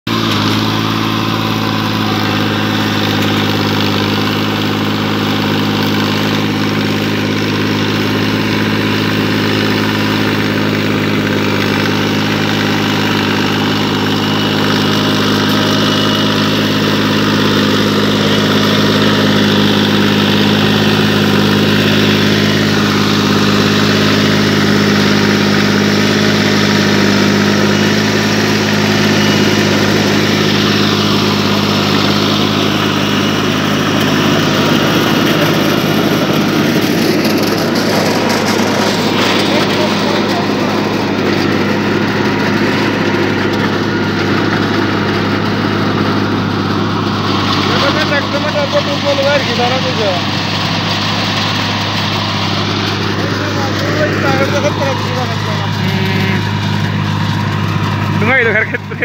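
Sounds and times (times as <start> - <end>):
tractor diesel engine under load: 0.0 - 59.0
rotary blades churning stubble: 0.1 - 59.0.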